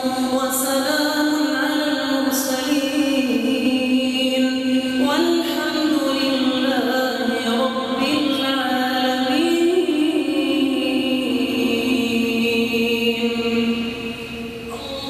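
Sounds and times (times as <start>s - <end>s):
person chanting a recitation: 0.0s - 15.0s.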